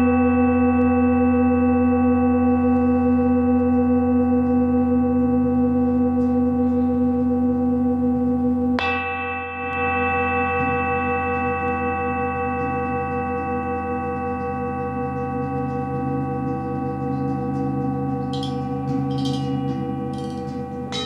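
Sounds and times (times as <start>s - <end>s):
monochord and singing bowls drone: 0.0s - 21.0s.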